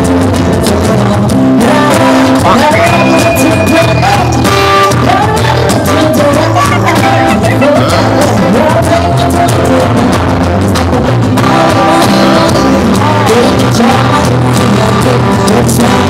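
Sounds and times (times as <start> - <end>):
pop music with singer: 0.0 - 16.0.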